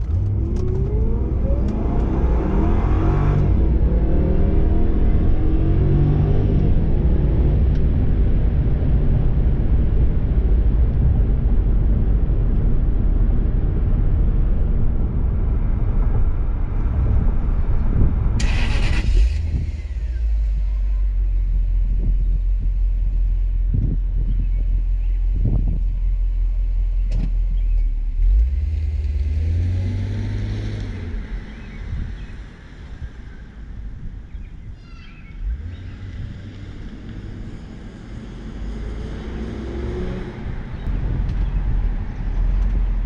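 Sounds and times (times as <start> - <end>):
car engine rumble while cruising: 0.0 - 43.0
road noise: 0.0 - 43.0.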